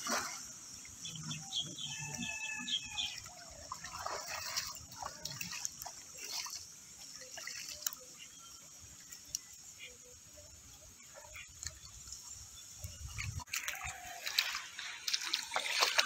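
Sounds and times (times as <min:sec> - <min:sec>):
pond water splashing and dripping: 0:00.0 - 0:16.0.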